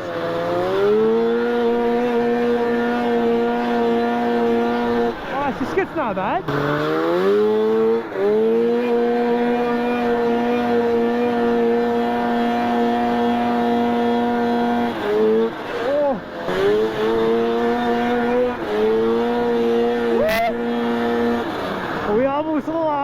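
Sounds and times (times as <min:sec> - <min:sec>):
snowmobile engine at high revs: 0:00.0 - 0:23.0.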